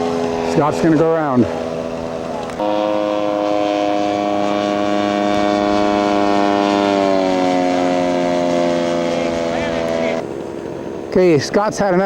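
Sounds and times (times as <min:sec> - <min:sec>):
model airplane engine running: 0:00.0 - 0:02.8, 0:04.7 - 0:12.0.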